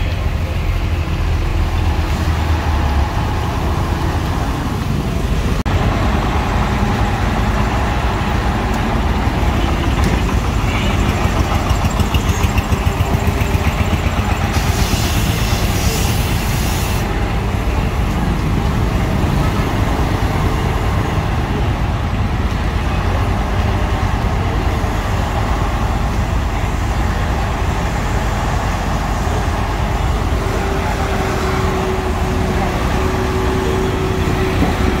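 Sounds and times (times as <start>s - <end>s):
heavy truck engine running: 0.0s - 35.0s.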